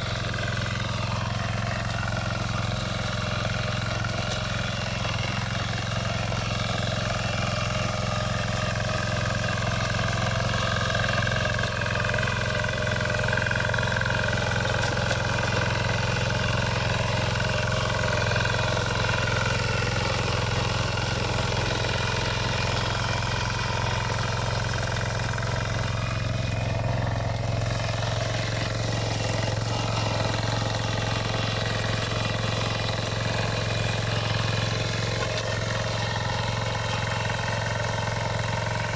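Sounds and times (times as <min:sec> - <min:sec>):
motor hoe engine running: 0:00.0 - 0:38.9
tines tilling soil: 0:00.0 - 0:38.9.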